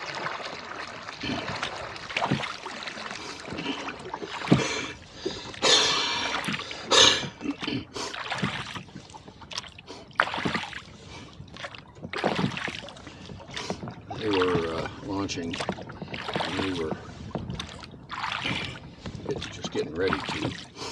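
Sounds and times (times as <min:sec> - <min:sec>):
water splashing at oars: 0:00.0 - 0:20.9.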